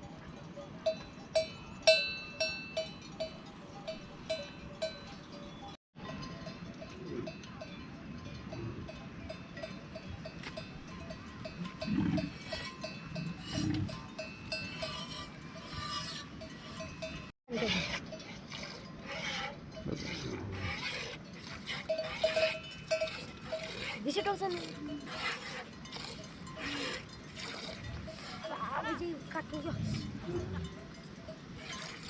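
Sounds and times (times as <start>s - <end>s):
animal bells clinking: 0.0s - 32.0s.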